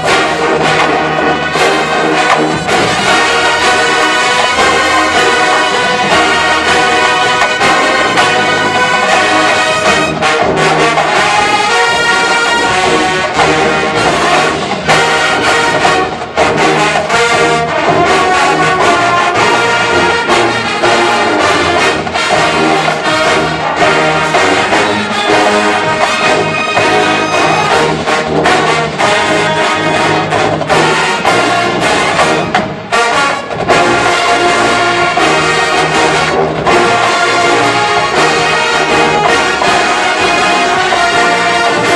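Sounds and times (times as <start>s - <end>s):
marching band playing: 0.0s - 41.9s.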